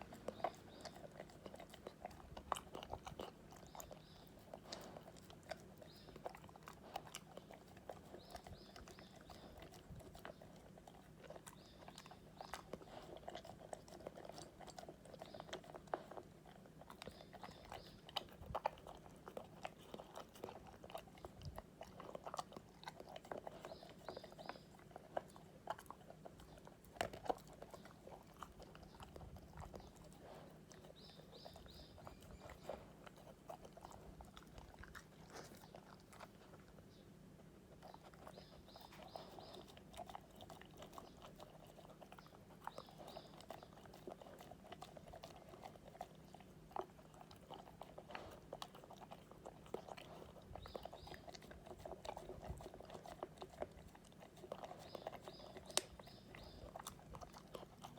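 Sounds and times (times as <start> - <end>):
dog chewing and crunching food: 0.0 - 57.9
faint steady hum: 0.0 - 57.9.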